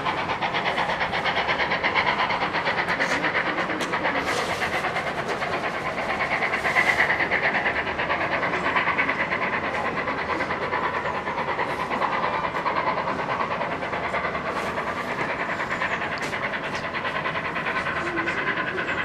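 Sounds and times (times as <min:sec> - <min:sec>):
steam train passing at speed: 0:00.0 - 0:19.0.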